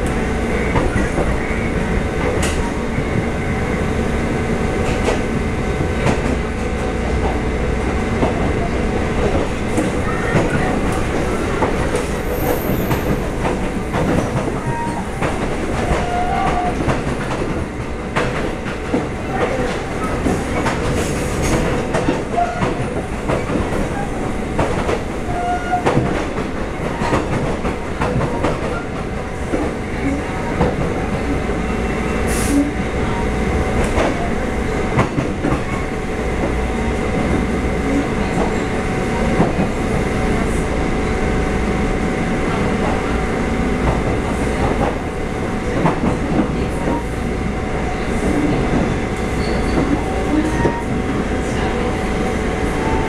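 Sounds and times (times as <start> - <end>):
train rumble and hum: 0.0 - 53.0.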